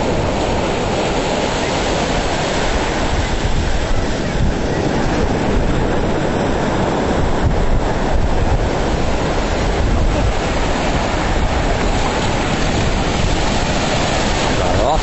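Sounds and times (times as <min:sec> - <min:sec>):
surf washing over sand: 0:00.0 - 0:15.0
wind rumbling on microphone: 0:00.0 - 0:15.0.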